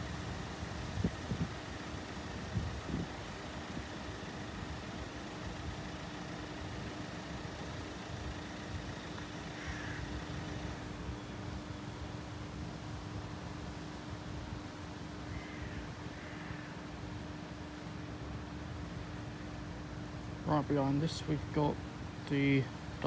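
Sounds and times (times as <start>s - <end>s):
faint steady hum: 0.0s - 23.0s
road vehicles idling: 0.0s - 23.0s.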